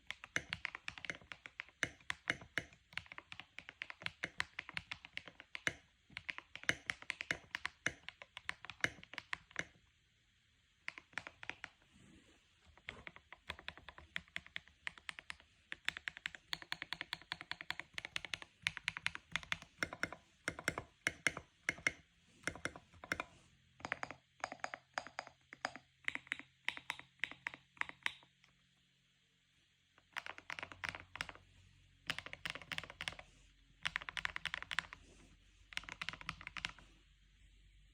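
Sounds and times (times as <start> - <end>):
mechanical keyboard typing: 0.0 - 9.8, 10.8 - 11.8, 12.7 - 28.3, 30.0 - 31.4, 32.0 - 35.0, 35.7 - 36.8.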